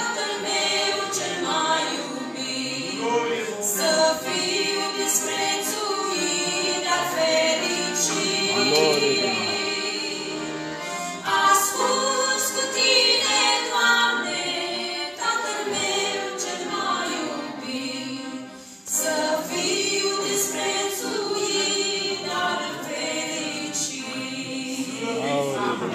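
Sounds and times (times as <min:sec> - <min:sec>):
two women singing: 0:00.0 - 0:03.0, 0:03.6 - 0:25.9.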